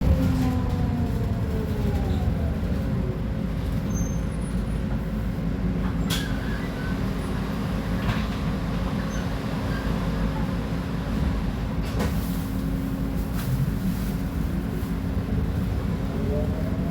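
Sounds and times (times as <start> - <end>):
diesel bus engine rumbling: 0.0 - 16.9.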